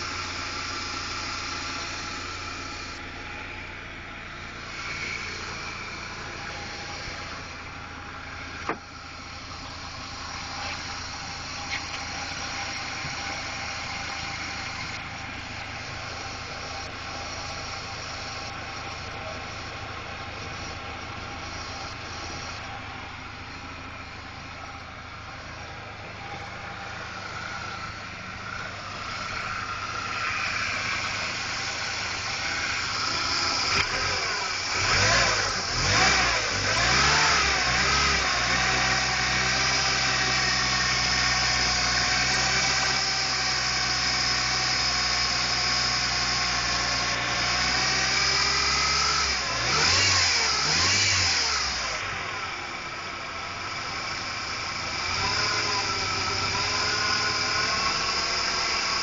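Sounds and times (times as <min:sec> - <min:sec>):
engine running and revving: 0:00.0 - 0:59.0.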